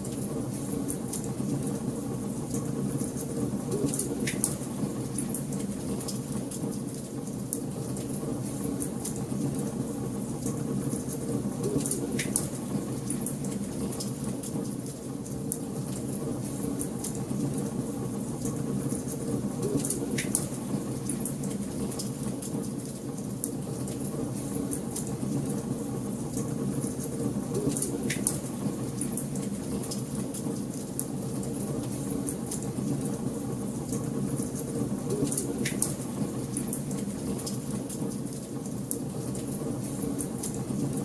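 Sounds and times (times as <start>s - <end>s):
fire crackling in fireplace: 0.0s - 41.0s.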